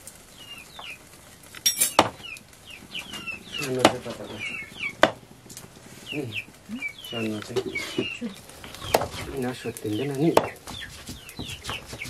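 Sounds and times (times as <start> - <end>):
chickens chirping and clucking: 0.1 - 12.0.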